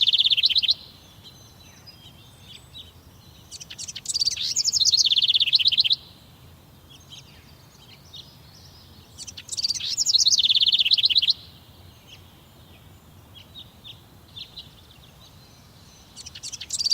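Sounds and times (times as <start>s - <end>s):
soft bird chirps: 0.0s - 16.9s
songbird singing with trill: 0.0s - 16.9s.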